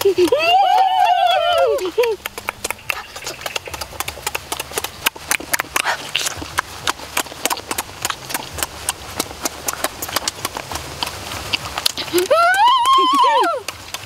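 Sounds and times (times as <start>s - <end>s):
lip smacking and wet chewing: 0.0s - 14.0s.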